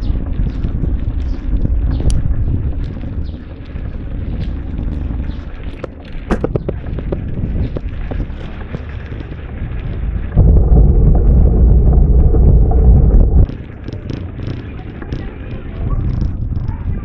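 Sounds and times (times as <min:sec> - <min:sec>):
heavy low rumble: 0:00.0 - 0:17.0
riding noise: 0:00.0 - 0:17.0
wind buffeting microphone: 0:00.0 - 0:17.0.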